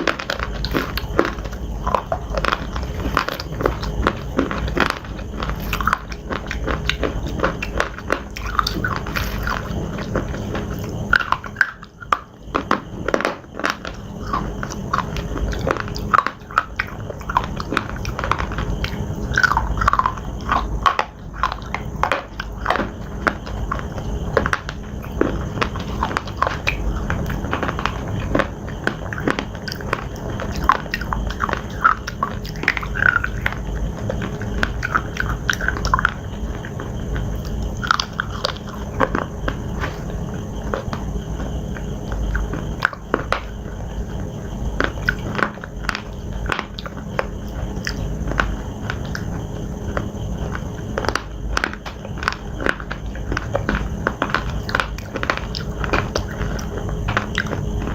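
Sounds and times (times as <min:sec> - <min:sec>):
chewing hard crunchy pieces: 0:00.0 - 0:57.9.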